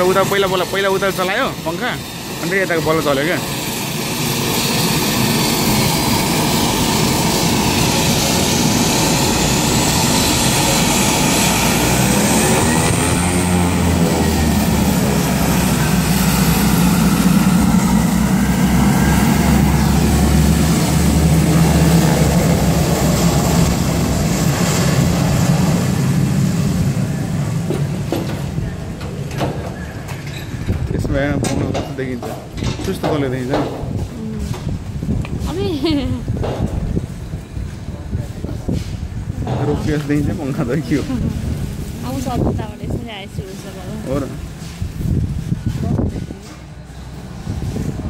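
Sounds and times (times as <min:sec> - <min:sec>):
high turbine whine: 0:00.0 - 0:48.0
turboprop engines droning: 0:00.0 - 0:48.0.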